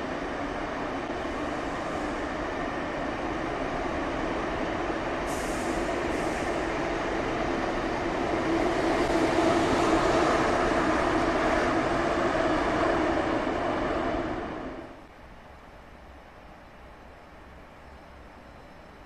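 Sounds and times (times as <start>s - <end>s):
high-speed train passing: 0.0s - 19.0s.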